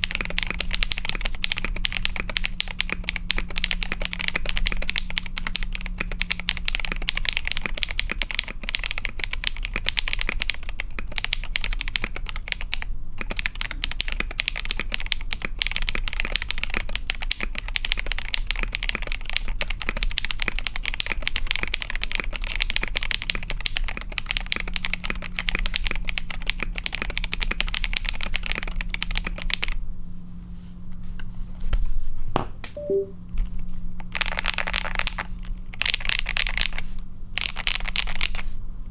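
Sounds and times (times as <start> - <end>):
fast typing on mechanical keyboard: 0.0 - 29.8, 34.0 - 38.5.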